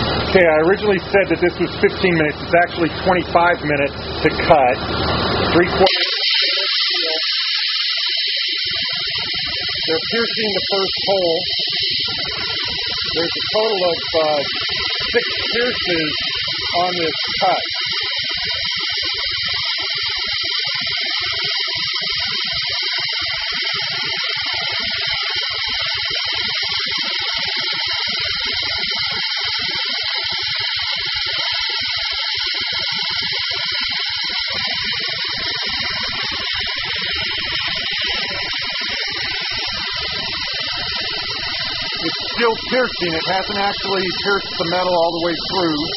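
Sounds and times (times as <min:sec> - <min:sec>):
waterjet hissing into metal: 0:00.0 - 0:45.9.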